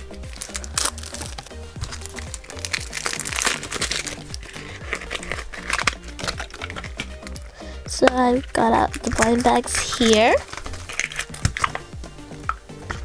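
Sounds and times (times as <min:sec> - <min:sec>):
background music: 0:00.0 - 0:13.0
plastic packaging crinkling: 0:00.0 - 0:13.0.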